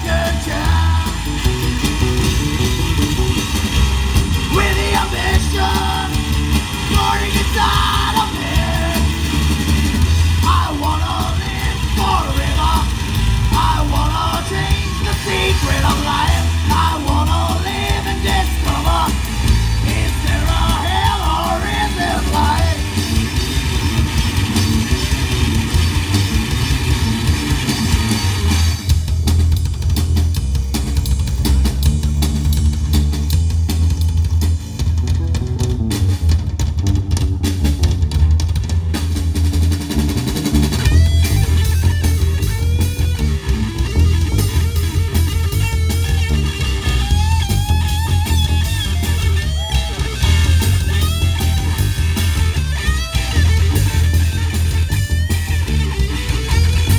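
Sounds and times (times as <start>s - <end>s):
bending electric guitar lead: 0.0s - 29.6s, 31.4s - 56.9s
rock trio playing: 0.0s - 56.9s.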